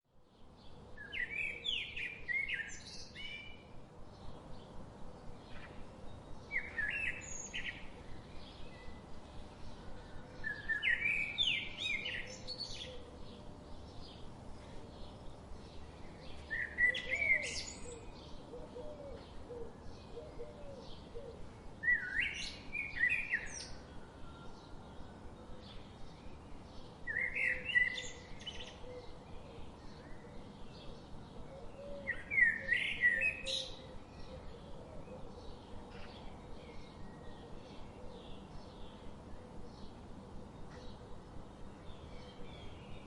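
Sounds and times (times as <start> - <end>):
songbird singing: 0.1 - 43.0
steady background hiss: 0.2 - 43.0.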